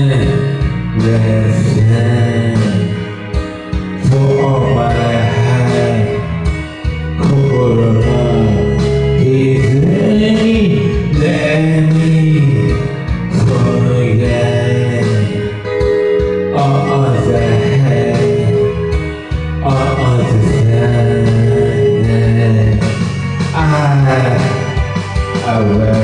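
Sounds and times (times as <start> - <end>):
man singing karaoke: 0.0 - 26.0
recorded backing track: 0.0 - 26.0.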